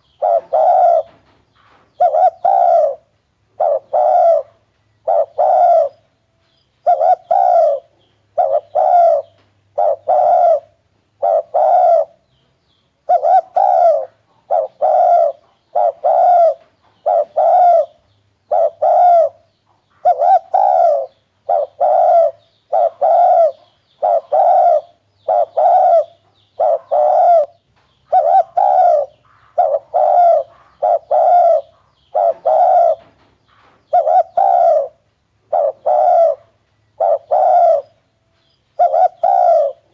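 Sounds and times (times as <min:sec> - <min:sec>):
dove cooing: 0:00.0 - 0:06.1, 0:06.8 - 0:12.2, 0:13.0 - 0:38.1, 0:38.7 - 0:39.9.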